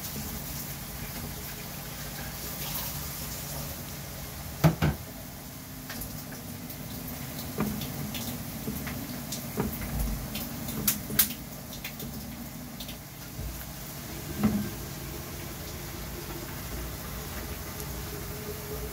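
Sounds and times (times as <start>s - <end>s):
garlic sizzling in hot oil: 0.0s - 18.9s.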